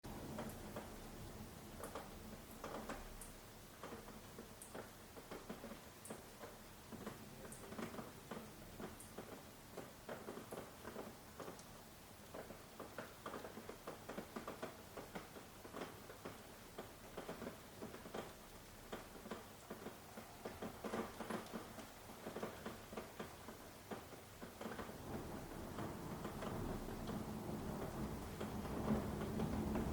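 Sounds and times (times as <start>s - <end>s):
soft ticking and tapping: 0.2s - 29.9s.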